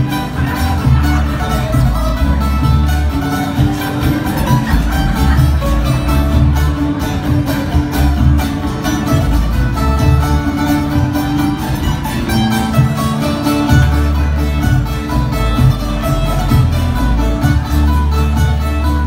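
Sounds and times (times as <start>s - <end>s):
folk band playing dance tune: 0.0s - 19.0s.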